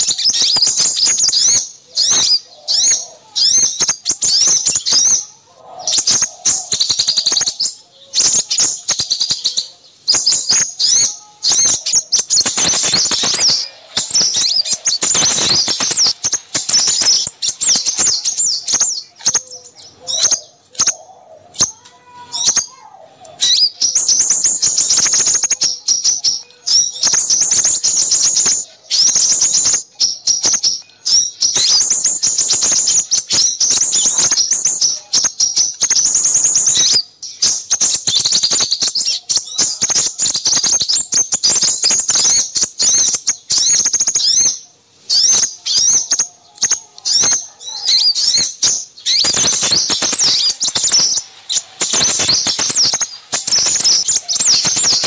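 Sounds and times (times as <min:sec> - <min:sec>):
songbirds twittering: 0:00.0 - 0:55.0.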